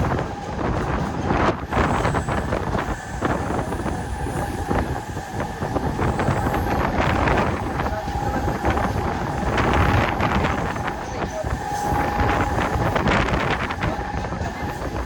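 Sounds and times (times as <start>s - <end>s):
electric train rumbling on track: 0.0s - 15.0s
faint steady whine: 0.0s - 15.0s.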